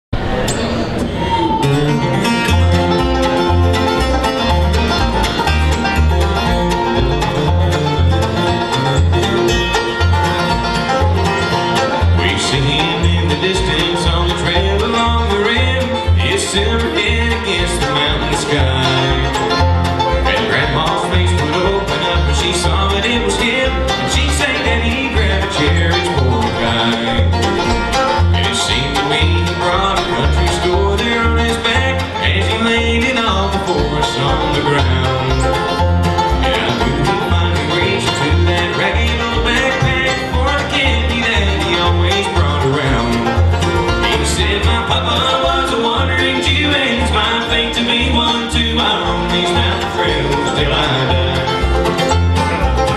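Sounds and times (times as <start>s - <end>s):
acoustic guitar: 0.1s - 52.9s
upright bass plucking: 0.1s - 52.9s
banjo: 0.2s - 52.9s
mandolin: 0.2s - 52.9s.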